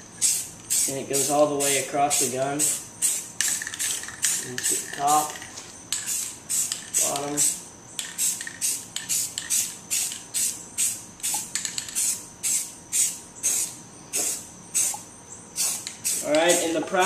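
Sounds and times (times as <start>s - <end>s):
spray can hissing: 0.2s - 5.4s, 6.0s - 16.8s.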